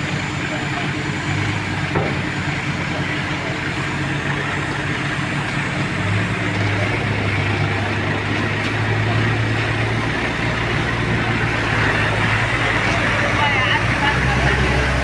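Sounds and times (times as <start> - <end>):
heavy vehicle engine humming: 0.0 - 15.0.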